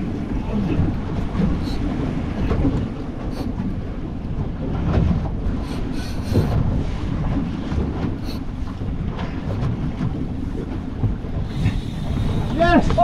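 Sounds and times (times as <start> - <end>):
water splashing against boat hull: 0.0 - 13.0
wind buffeting microphone: 0.0 - 13.0.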